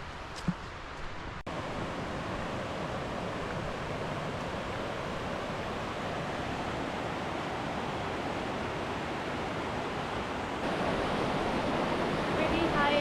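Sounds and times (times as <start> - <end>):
rushing river water: 0.2 - 13.0.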